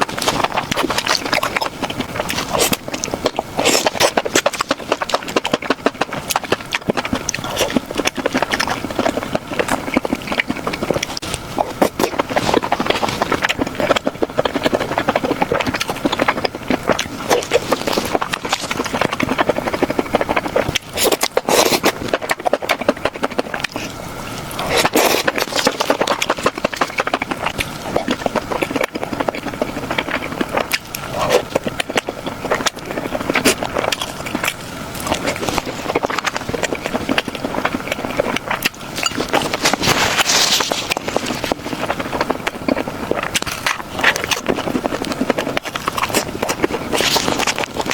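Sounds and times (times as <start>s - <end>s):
chewing and smacking: 0.0s - 47.9s.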